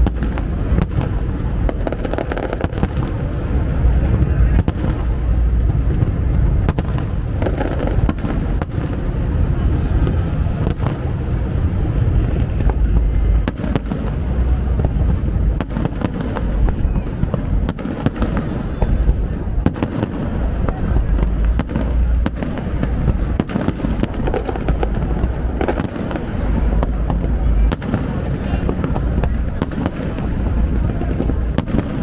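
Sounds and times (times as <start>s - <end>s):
fireworks booming: 0.0s - 32.0s
fireworks cracking: 0.0s - 32.0s.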